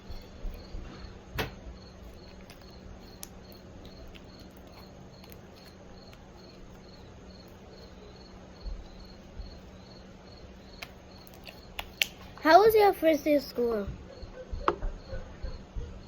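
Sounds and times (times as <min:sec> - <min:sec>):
cricket chirping: 0:00.0 - 0:16.0
faint low hum: 0:00.0 - 0:16.0.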